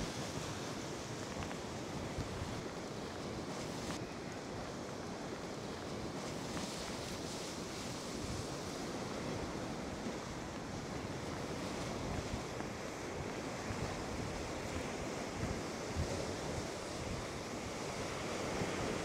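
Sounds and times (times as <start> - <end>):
wind gusting across microphone: 0.0 - 19.0.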